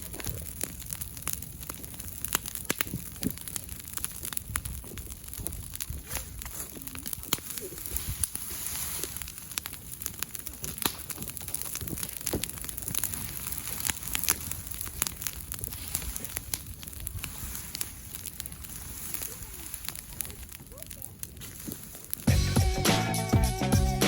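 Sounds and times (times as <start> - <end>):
open fire crackling: 0.0 - 24.0.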